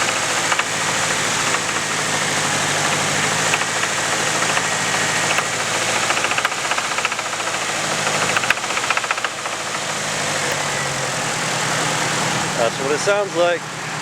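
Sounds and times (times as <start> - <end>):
rhythmic engine rod knock: 0.0 - 11.4
car engine running: 0.0 - 14.0.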